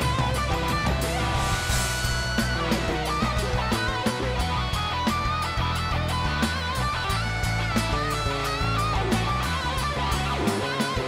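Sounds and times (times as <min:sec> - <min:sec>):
bass guitar: 0:00.0 - 0:11.0
electric guitar lead: 0:00.0 - 0:11.0
steady drum beat: 0:00.0 - 0:11.0.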